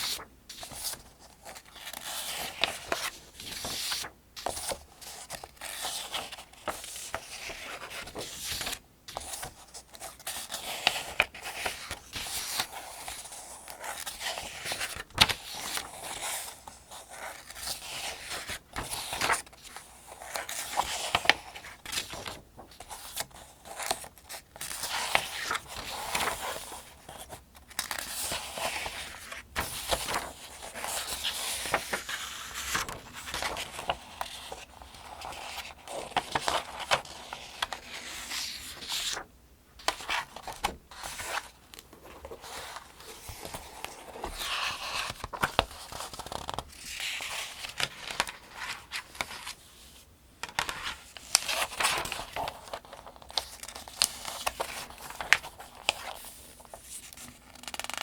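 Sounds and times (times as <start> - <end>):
pages turning: 0.0 - 49.6, 50.4 - 58.0.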